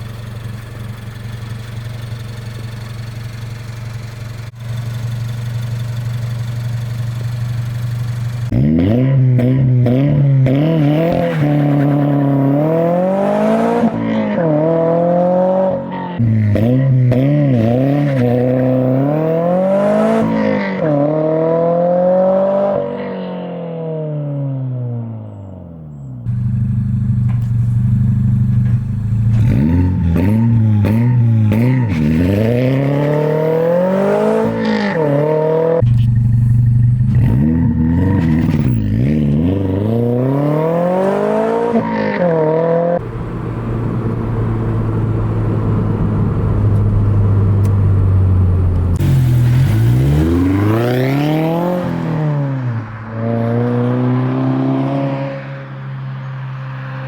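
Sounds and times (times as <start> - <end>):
car engine revving: 0.0 - 25.4, 26.1 - 57.0.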